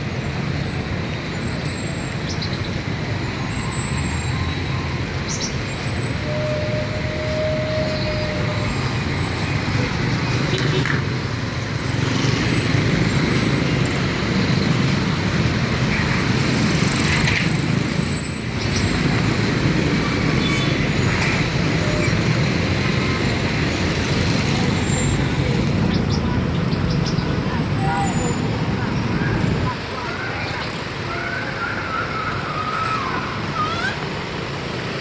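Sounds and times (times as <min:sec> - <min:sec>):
road traffic noise: 0:00.0 - 0:35.0.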